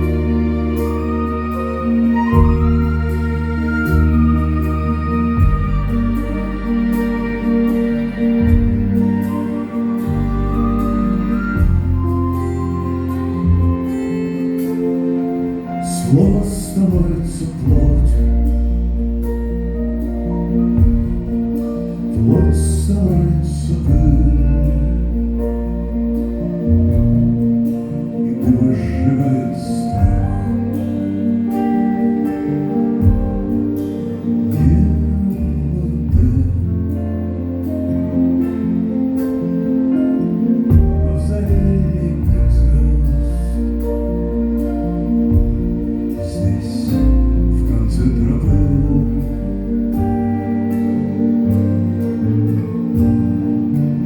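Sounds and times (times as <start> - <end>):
bass line: 0.0 - 54.0
held chords: 0.0 - 54.0
live band playing instrumental: 0.0 - 54.0.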